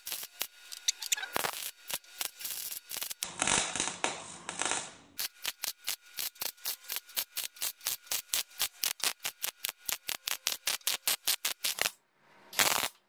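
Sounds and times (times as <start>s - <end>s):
welder arc crackling: 0.0s - 12.0s, 12.6s - 13.0s.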